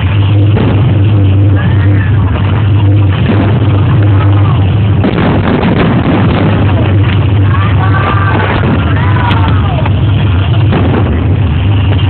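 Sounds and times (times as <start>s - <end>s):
faint crowd voices: 0.0s - 12.0s
fireworks rumbling and banging: 0.0s - 12.0s.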